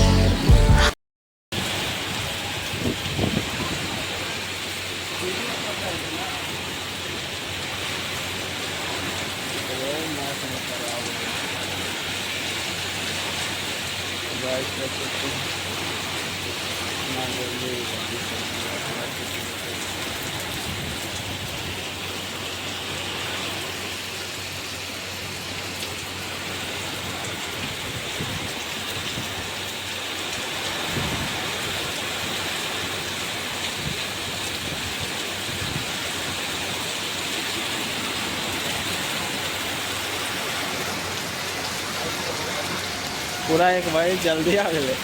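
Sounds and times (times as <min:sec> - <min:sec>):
heavy rain falling: 0:01.6 - 0:45.0.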